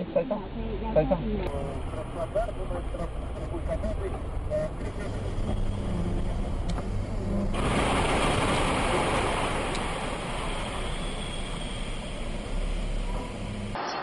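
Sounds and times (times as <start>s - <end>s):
car engine hum: 0.0s - 13.9s
road and tyre noise: 0.0s - 14.0s.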